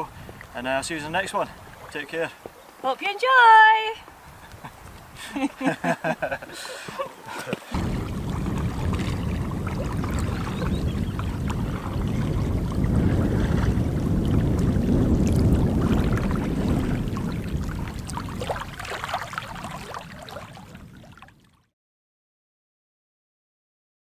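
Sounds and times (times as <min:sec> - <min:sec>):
wind rumbling on microphone: 0:00.0 - 0:02.7, 0:04.0 - 0:07.0, 0:07.7 - 0:21.7
water lapping and splashing: 0:00.0 - 0:03.0, 0:04.1 - 0:21.7.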